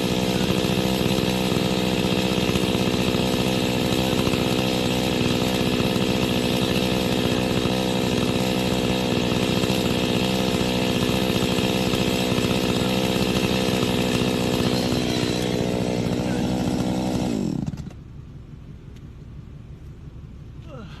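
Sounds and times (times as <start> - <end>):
chainsaw engine running: 0.0 - 18.0.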